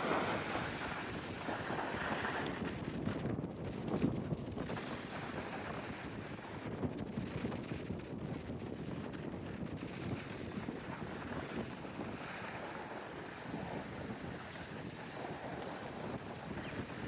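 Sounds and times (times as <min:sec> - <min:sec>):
wind buffeting the microphone: 0:00.0 - 0:17.0.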